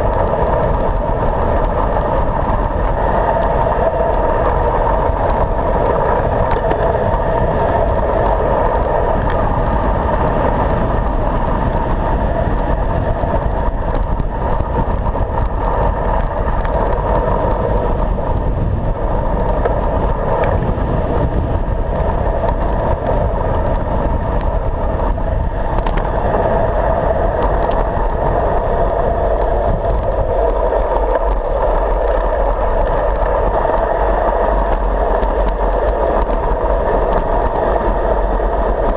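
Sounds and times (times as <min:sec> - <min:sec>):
clicks from road bumps: 0:00.0 - 0:38.9
tyres on road: 0:00.0 - 0:38.9
wind rushing: 0:00.0 - 0:38.9.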